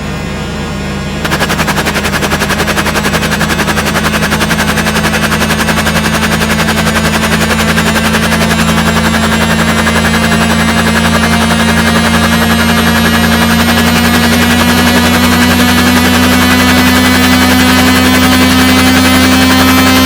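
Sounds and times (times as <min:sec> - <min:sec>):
helicopter rotor chop: 0:01.2 - 0:20.0
high whine rising in pitch: 0:01.2 - 0:20.0
low engine hum: 0:01.2 - 0:20.0.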